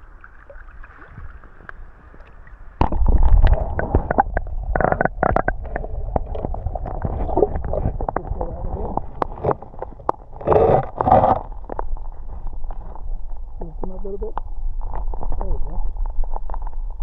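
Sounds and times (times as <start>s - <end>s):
muffled underwater rumble: 0.0s - 17.0s
camera clicks and knocks underwater: 1.5s - 17.0s.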